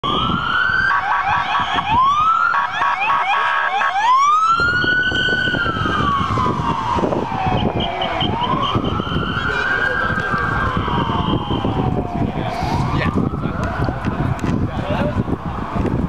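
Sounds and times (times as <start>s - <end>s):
emergency sirens wailing: 0.0s - 16.0s
street noise: 0.0s - 16.0s.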